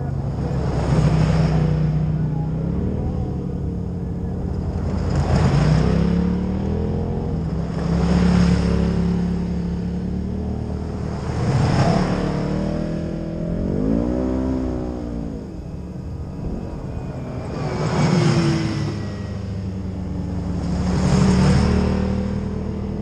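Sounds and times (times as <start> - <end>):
engine revving: 0.0 - 23.0
utv engines running: 0.0 - 23.0.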